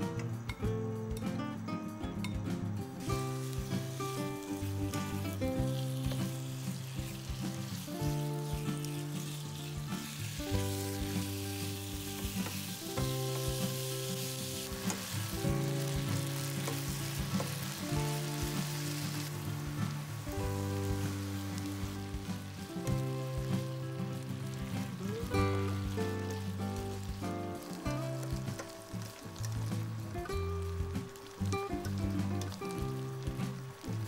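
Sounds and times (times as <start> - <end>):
soft background music: 0.0 - 34.0
meat sizzling in oil: 3.0 - 34.0.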